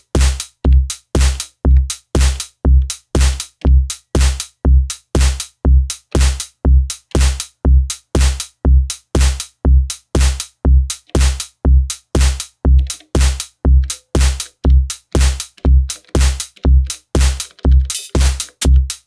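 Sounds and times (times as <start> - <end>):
hi-hat hits: 0.0 - 19.0
kick drum beat: 0.0 - 19.0.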